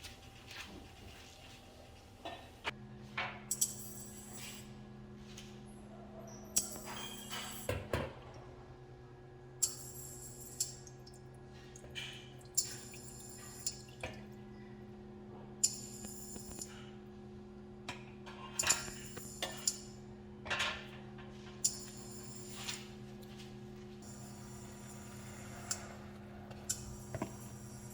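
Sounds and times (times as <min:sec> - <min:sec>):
steady low hum: 0:02.6 - 0:27.9.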